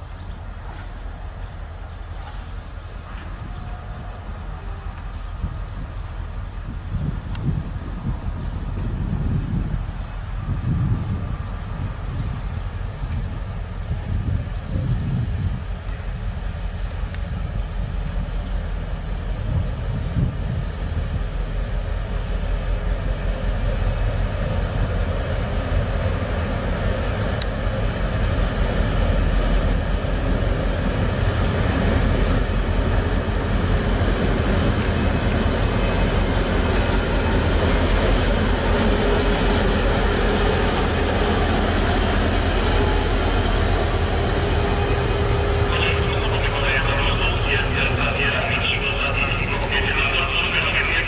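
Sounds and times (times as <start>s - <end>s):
diesel locomotive engine running: 0.0s - 51.0s.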